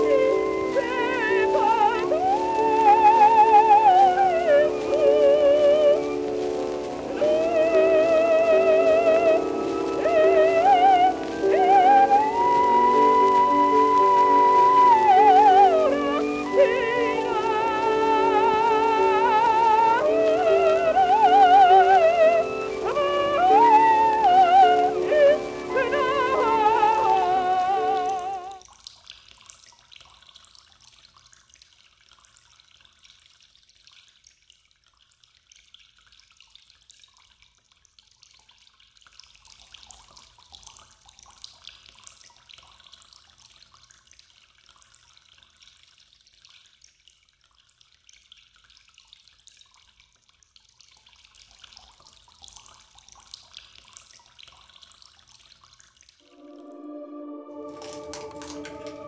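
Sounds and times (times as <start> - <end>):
water trickling and dripping: 0.0 - 59.0.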